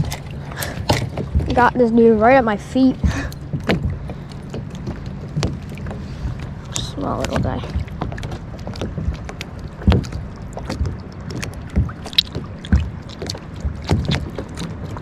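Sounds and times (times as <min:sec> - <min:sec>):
knocks and clatter in a kayak: 0:00.0 - 0:15.0
steady low rumble: 0:00.0 - 0:15.0.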